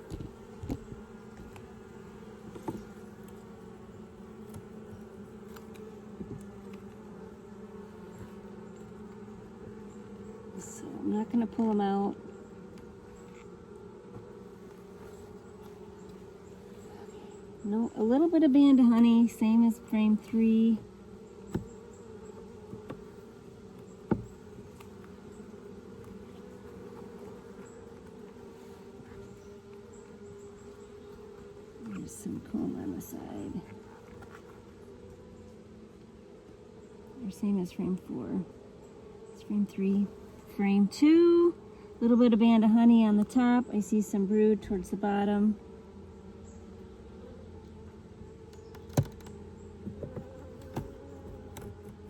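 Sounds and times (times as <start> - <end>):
honeybees buzzing: 0.0 - 52.0.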